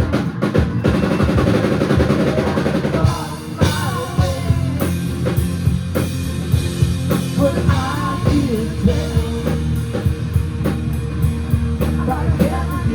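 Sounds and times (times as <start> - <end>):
drum fill: 0.0 - 12.8
live rock band playing: 0.0 - 12.9.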